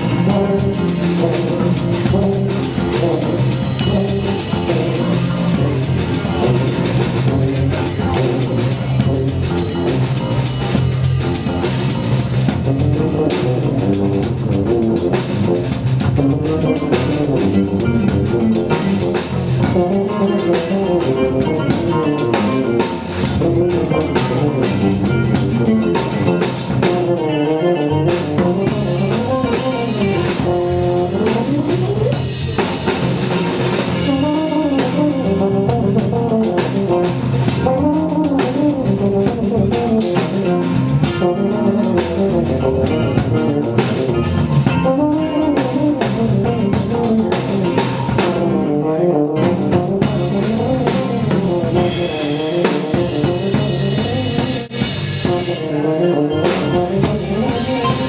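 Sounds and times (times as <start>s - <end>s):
drum kit with cymbals: 0.0s - 58.0s
upright bass: 0.0s - 58.0s
wandering melodic line: 0.0s - 58.0s.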